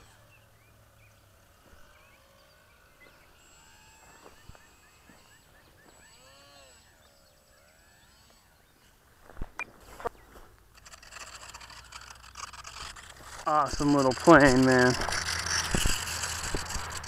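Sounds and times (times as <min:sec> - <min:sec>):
faint birdsong: 0:00.0 - 0:16.8.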